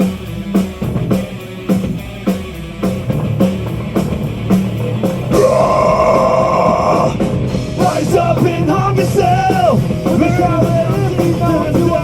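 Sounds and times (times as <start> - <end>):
metal band playing: 0.0 - 12.0.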